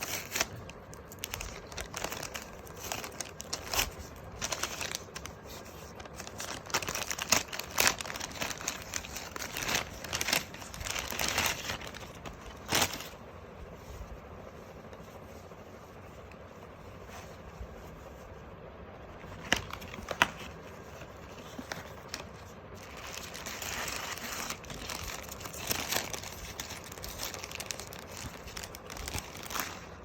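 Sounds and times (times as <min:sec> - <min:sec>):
paper packaging rustling: 0:00.0 - 0:14.2, 0:19.2 - 0:30.0.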